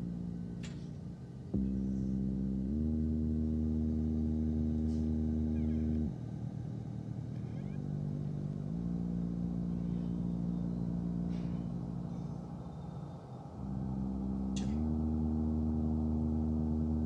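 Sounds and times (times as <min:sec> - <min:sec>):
low droning tone: 0:00.0 - 0:17.0.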